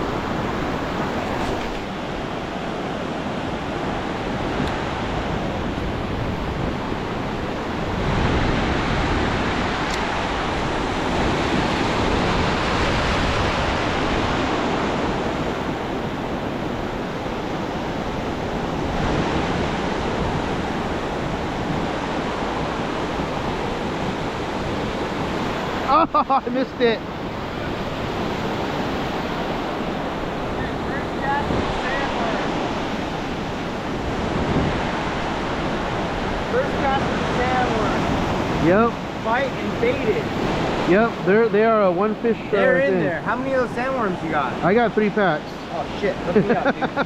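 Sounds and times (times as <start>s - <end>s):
wind on microphone: 0.0s - 44.6s
waves breaking on a beach: 0.0s - 47.0s.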